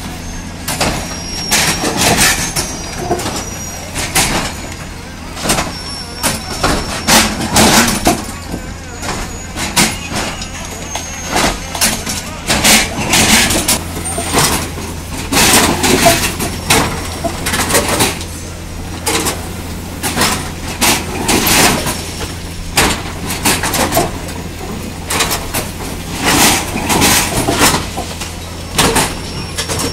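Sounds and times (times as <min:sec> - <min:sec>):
metallic clanks and knocks: 0:00.7 - 0:18.4, 0:19.0 - 0:29.9.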